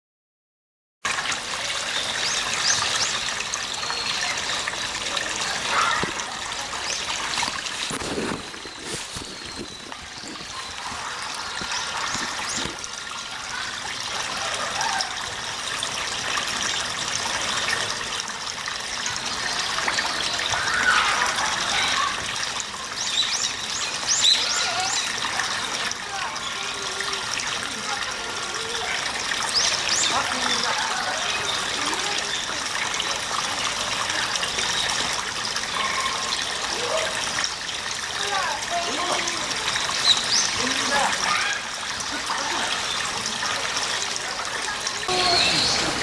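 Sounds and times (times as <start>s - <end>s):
water trickling and splashing: 1.0s - 46.0s.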